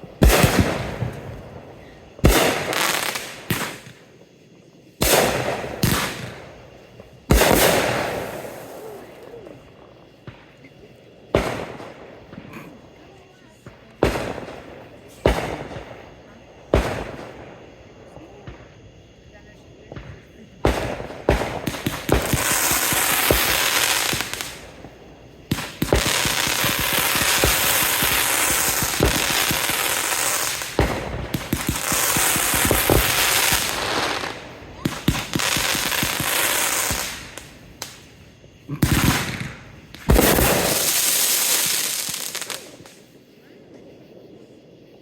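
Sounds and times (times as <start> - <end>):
fireworks popping and crackling: 0.0 - 4.4, 5.0 - 19.0, 19.6 - 43.1.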